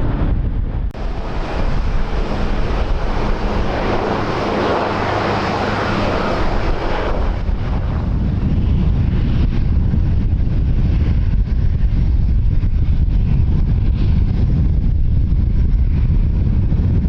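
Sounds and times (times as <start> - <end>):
aircraft engines passing: 0.0 - 17.0
wind buffeting microphone: 0.0 - 17.0.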